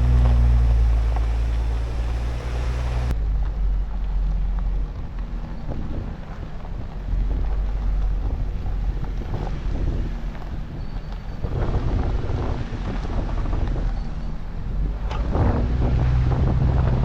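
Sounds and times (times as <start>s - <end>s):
wind buffeting microphone: 0.0s - 4.0s, 4.6s - 17.0s
vehicle engine and tyres rumbling: 0.0s - 17.0s.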